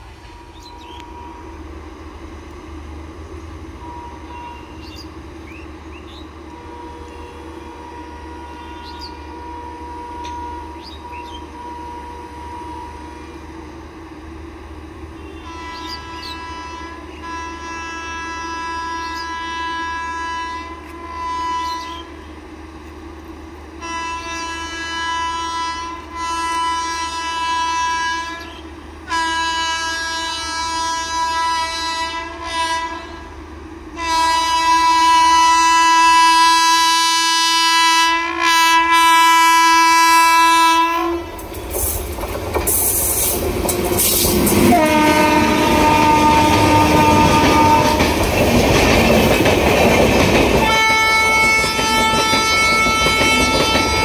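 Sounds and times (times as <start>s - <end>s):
train horn blasts: 0.0s - 1.8s, 3.7s - 5.0s, 6.1s - 13.6s, 15.1s - 22.3s, 23.8s - 41.4s, 44.0s - 48.4s, 50.5s - 54.0s
train passing rumble and wheel clatter: 0.0s - 54.0s.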